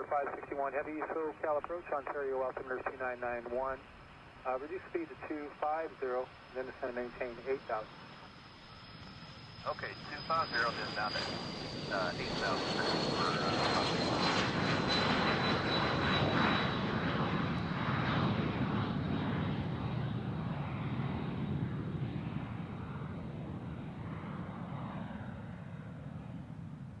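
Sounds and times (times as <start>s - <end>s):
jet airliner passing: 0.0s - 27.0s.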